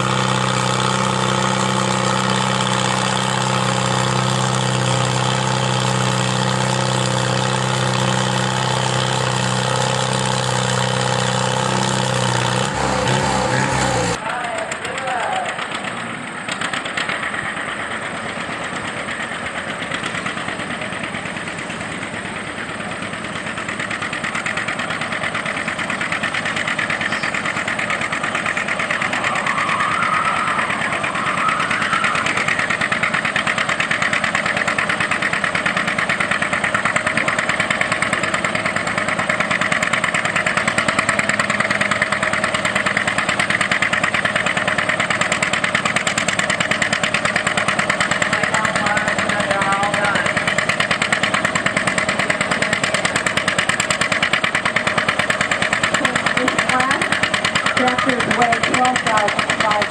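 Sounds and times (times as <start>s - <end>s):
tractor engine working under load: 0.0s - 59.9s.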